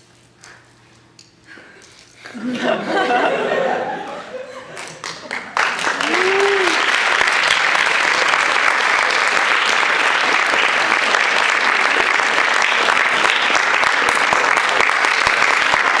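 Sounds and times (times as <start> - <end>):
crowd applauding: 3.0 - 16.0.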